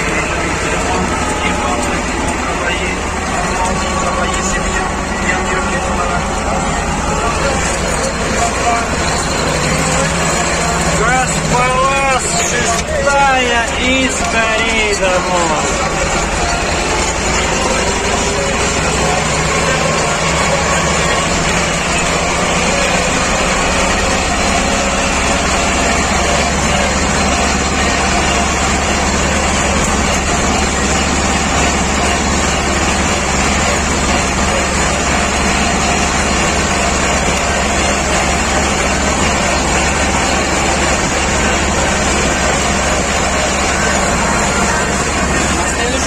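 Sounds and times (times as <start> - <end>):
road and chassis rattle: 0.0 - 46.0
tractor diesel engine at full throttle: 0.0 - 46.0.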